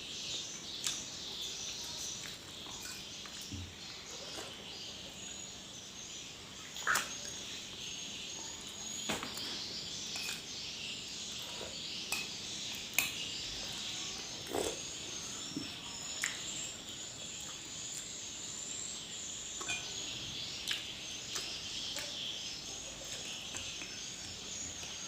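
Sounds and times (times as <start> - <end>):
steady high-pitched hiss: 0.0 - 25.0.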